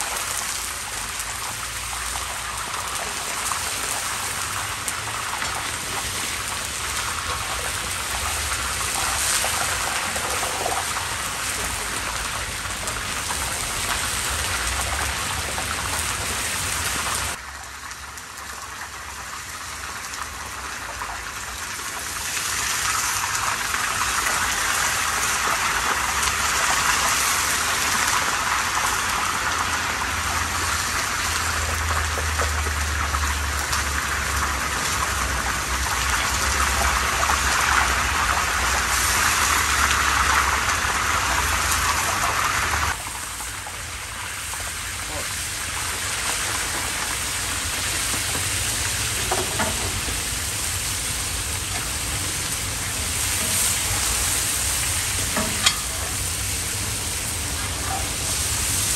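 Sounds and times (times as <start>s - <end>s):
meat sizzling in hot oil: 0.0s - 58.9s.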